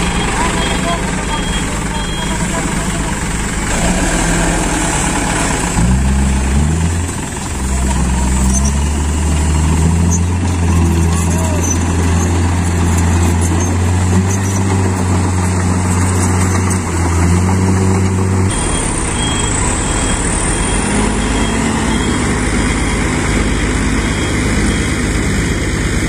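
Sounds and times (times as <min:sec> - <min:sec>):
diesel truck engine: 0:00.0 - 0:26.0.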